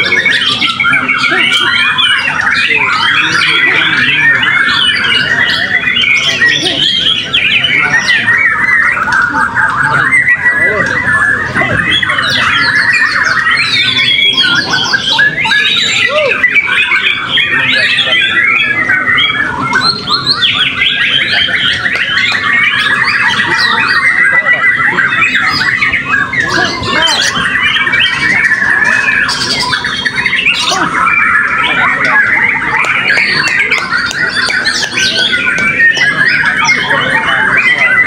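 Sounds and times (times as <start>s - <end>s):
chorus of birds singing: 0.0s - 38.0s.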